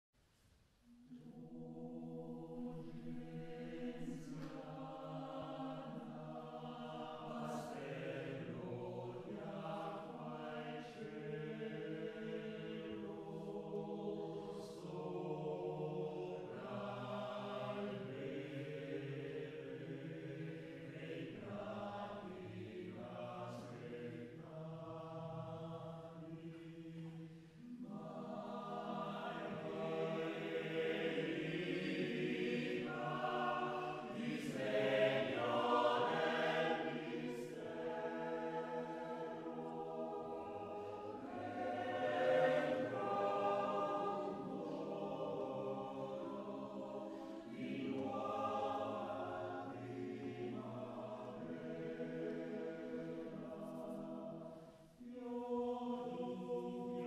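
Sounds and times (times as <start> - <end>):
men's choir singing: 1.3 - 57.0.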